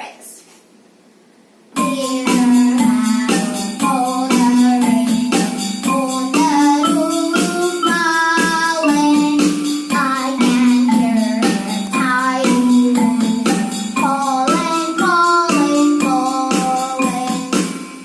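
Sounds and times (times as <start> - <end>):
electronic keyboard melody: 1.8 - 18.0
keyboard percussion beat: 1.8 - 18.0.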